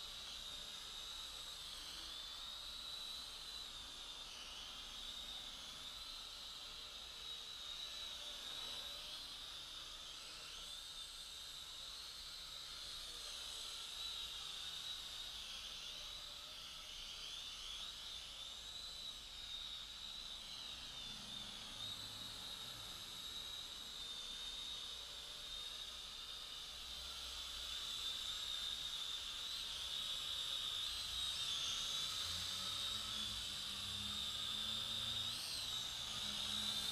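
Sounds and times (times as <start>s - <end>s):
quadcopter motors whining: 0.0s - 36.9s.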